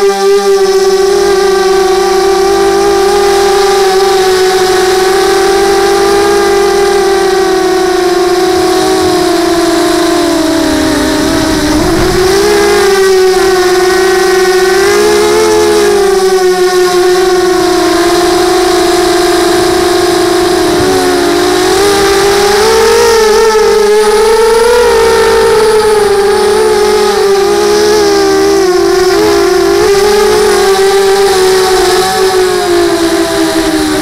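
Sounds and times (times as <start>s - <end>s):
drone propellers whining: 0.4s - 34.0s.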